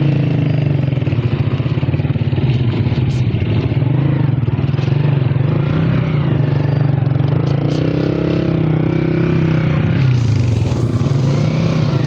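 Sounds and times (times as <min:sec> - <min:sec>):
vehicle engine pulsing: 0:00.0 - 0:12.0.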